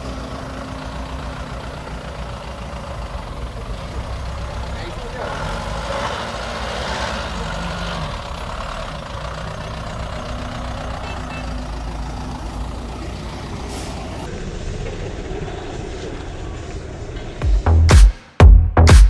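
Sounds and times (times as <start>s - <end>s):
diesel engine running: 0.0s - 17.8s.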